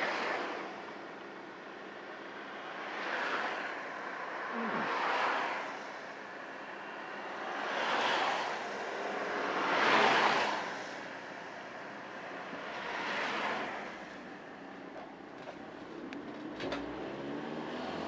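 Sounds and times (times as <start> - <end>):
steady traffic hum: 0.0 - 18.0
vehicles rushing by: 0.0 - 18.0.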